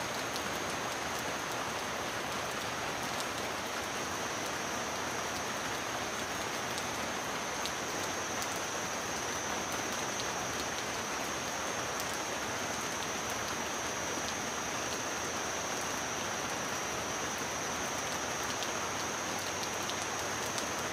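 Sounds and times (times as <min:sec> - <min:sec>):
rain falling on wet ground: 0:00.0 - 0:20.9.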